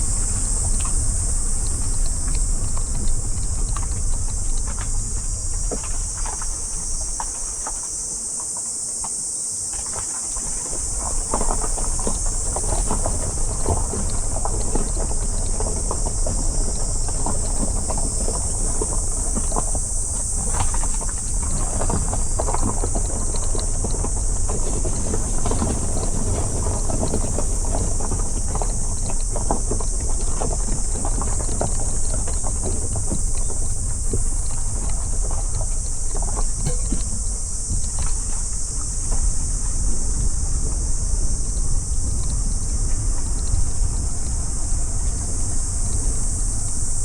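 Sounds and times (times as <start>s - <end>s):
wind noise: 0.0s - 7.7s, 10.0s - 47.0s
car tyres and engine rumble: 0.0s - 47.0s
small knocks and rattles: 0.1s - 44.4s.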